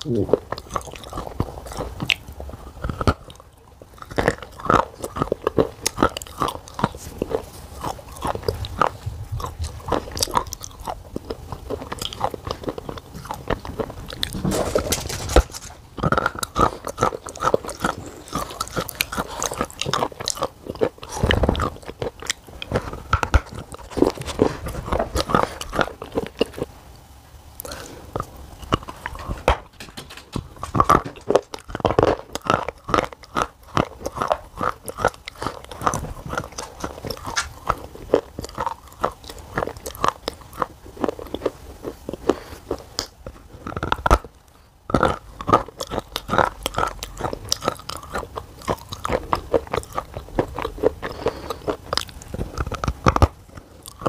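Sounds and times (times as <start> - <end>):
crunching clay between teeth: 0.0 - 26.7, 27.6 - 54.0.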